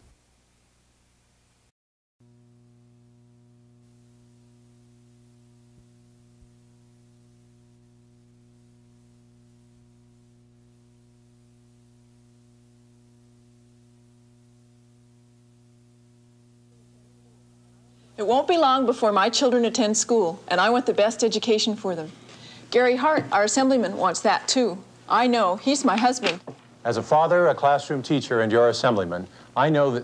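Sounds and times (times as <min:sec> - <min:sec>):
faint electrical mains hum: 0:00.0 - 0:30.0.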